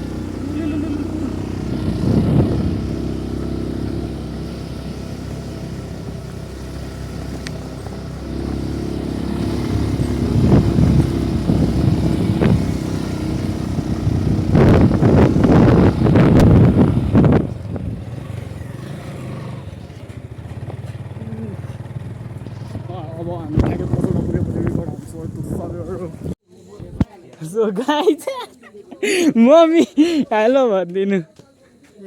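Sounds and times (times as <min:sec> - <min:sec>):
vehicle engine running: 0:00.0 - 0:26.4.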